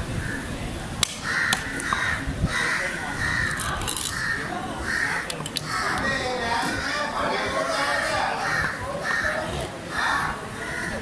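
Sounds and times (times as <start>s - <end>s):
crows cawing: 1.2s - 11.0s.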